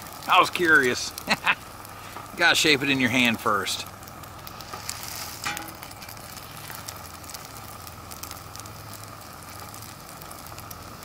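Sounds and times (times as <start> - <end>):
batter sizzling and crackling: 0.0 - 11.0
gas burner hiss and hum: 0.0 - 11.0.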